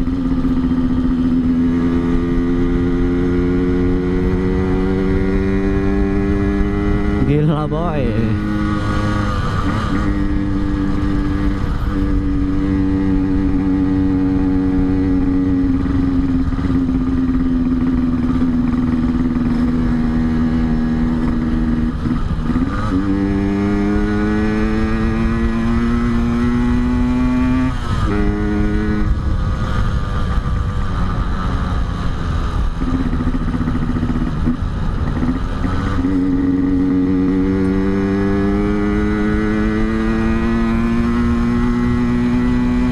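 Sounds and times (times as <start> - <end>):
two-stroke motorcycle engine: 0.0 - 42.9.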